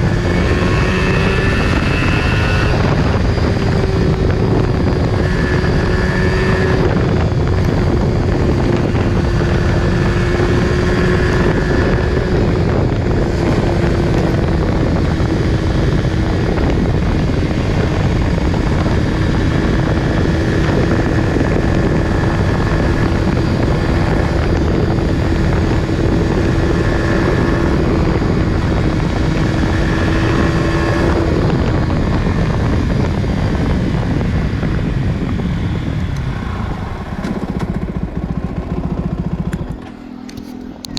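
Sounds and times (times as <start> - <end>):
motorcycle engine cruising: 0.0 - 40.9
wind and road rush: 0.0 - 40.9.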